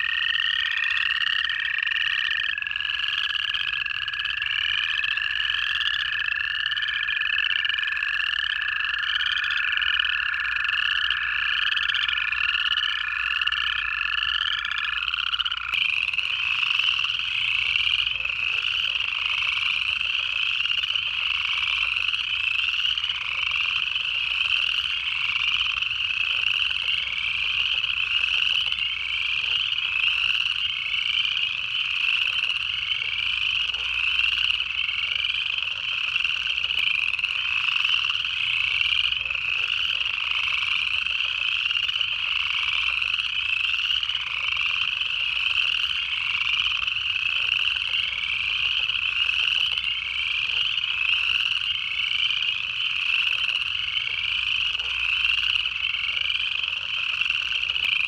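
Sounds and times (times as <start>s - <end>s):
chorus of frogs trilling: 0.0s - 58.0s.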